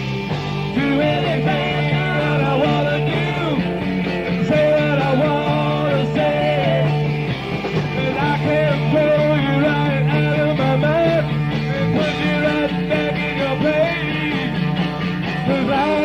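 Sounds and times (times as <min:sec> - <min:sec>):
lead guitar bending notes: 0:00.0 - 0:16.0
muffled live rock band: 0:00.0 - 0:16.0.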